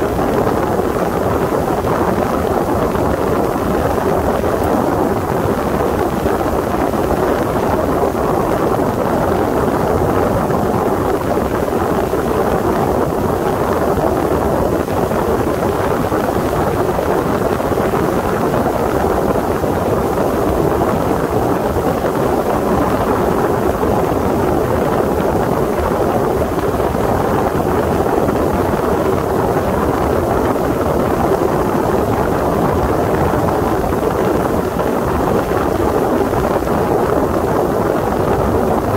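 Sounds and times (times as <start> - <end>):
water rushing along hull: 0.0 - 38.9
wind on microphone: 0.0 - 38.9.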